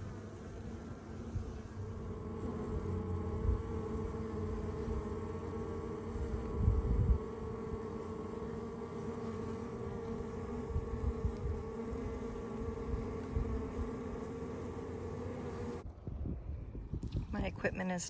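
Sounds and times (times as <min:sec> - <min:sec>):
honeybees buzzing: 0:00.0 - 0:15.8.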